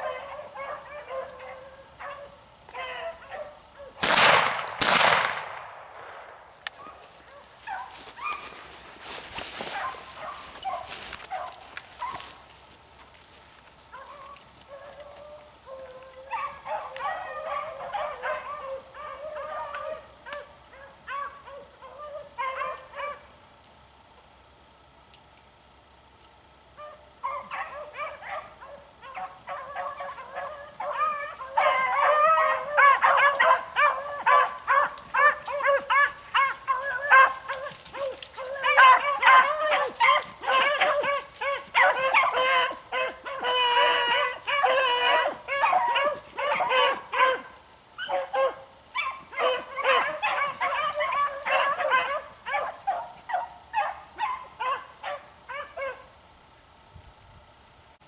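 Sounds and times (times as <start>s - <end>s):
beagles baying: 0.0s - 5.4s, 6.6s - 23.4s, 26.7s - 56.1s.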